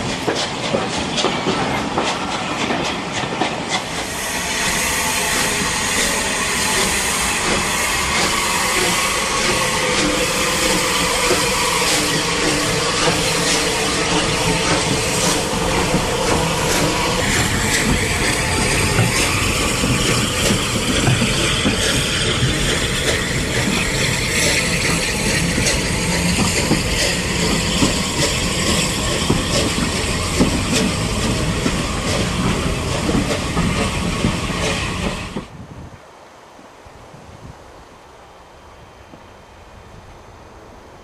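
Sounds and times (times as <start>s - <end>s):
wheels clicking over rail joints: 0.0s - 4.1s, 5.3s - 35.5s
steam hiss: 0.0s - 35.5s
steam train rolling past: 0.0s - 35.6s
distant train: 0.0s - 41.0s.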